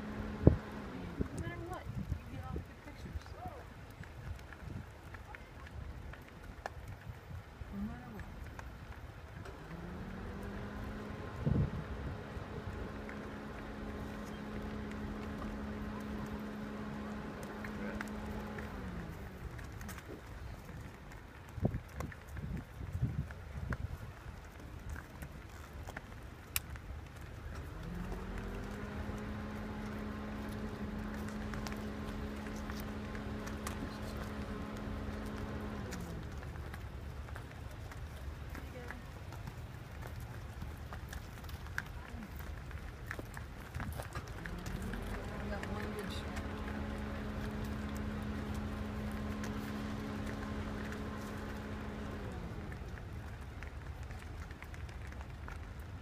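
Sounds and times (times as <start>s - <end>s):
car engine idling: 0.0s - 3.8s, 7.6s - 22.3s, 23.4s - 56.0s
hooves clicking on asphalt: 0.0s - 56.0s
steady mechanical hum: 0.0s - 56.0s
low rumble: 7.2s - 24.2s, 25.6s - 40.6s, 41.4s - 56.0s.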